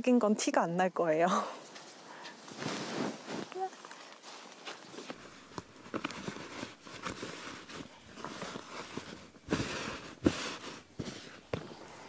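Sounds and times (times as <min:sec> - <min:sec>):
fleece rustling: 0:01.8 - 0:12.0.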